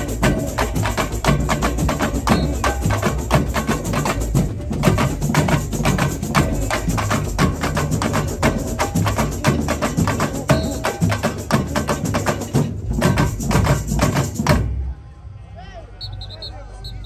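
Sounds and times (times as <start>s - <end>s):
samba drums playing: 0.0s - 14.9s.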